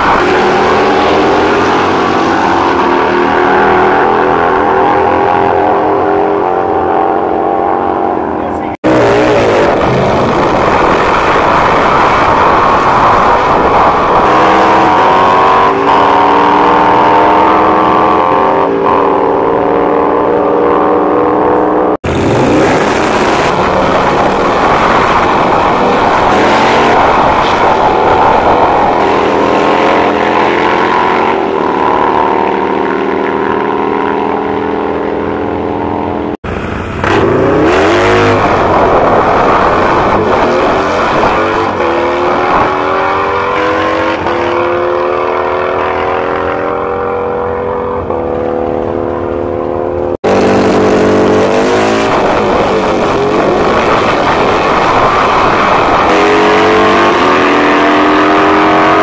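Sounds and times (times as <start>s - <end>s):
drag motorcycles accelerating: 0.0s - 59.0s.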